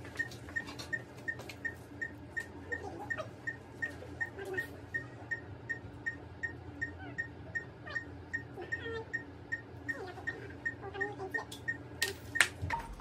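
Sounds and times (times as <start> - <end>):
patient monitor beeping: 0.0 - 13.0.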